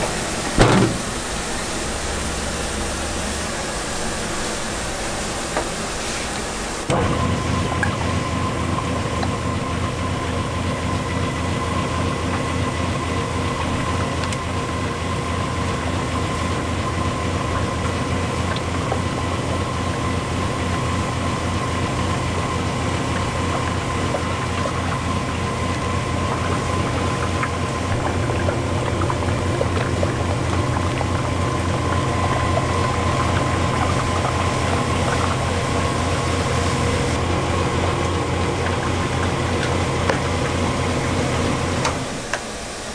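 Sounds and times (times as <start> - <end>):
extruder motor chugging: 6.8 - 42.4.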